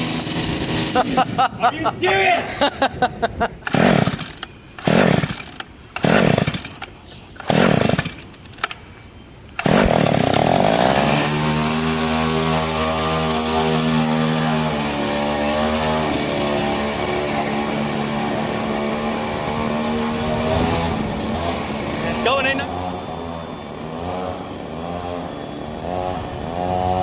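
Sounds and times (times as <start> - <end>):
small two-stroke engine: 0.0 - 1.4, 3.7 - 6.8, 7.4 - 8.6, 9.6 - 27.0.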